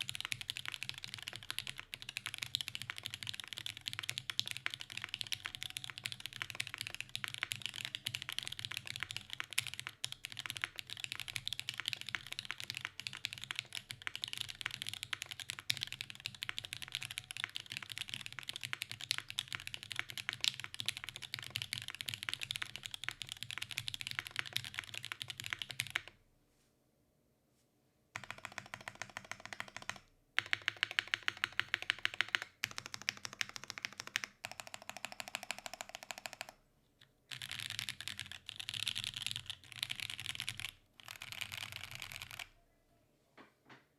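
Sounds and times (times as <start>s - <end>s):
mechanical keyboard typing: 0.0s - 26.2s, 28.2s - 36.6s, 37.3s - 42.5s.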